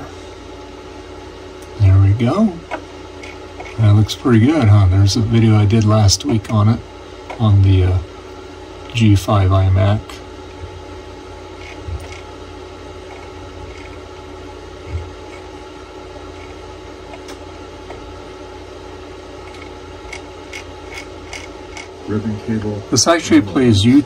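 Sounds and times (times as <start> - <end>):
cooling fan humming: 0.0 - 24.0.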